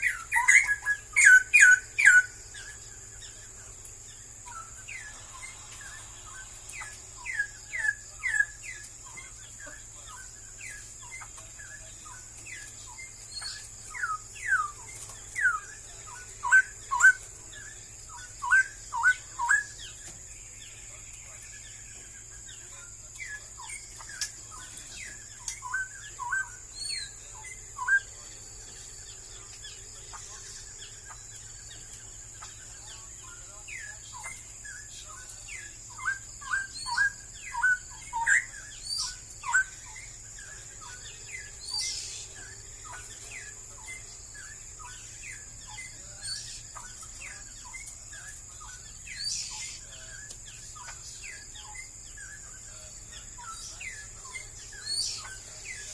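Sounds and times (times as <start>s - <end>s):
bird singing whistled notes: 0.0s - 55.9s
high-pitched hiss: 0.0s - 55.9s.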